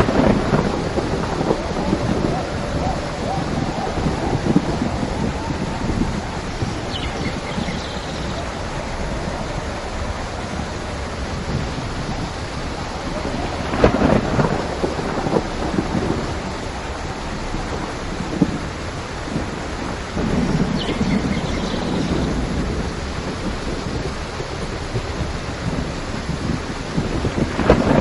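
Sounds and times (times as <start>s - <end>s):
heavy rain: 0.0s - 28.0s
rolling thunder: 0.0s - 28.0s.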